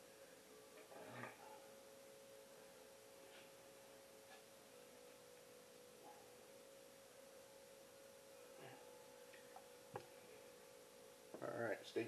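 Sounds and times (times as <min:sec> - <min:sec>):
faint steady tone: 0:00.0 - 0:12.0.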